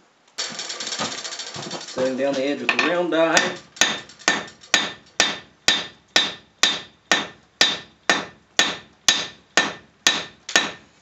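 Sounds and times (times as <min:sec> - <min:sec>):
hammer striking hot steel: 0:00.4 - 0:10.8.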